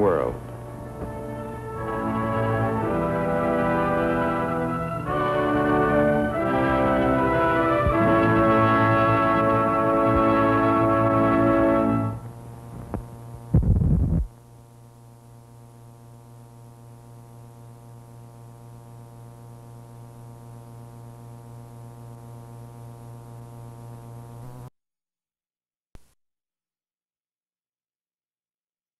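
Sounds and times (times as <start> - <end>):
electrical mains hum: 0.0 - 24.7.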